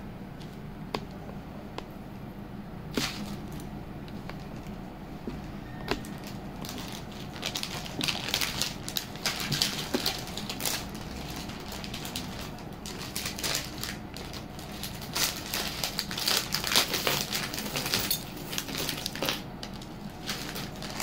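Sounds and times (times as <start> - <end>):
jewellery clicking and crinkling: 3.0 - 21.0.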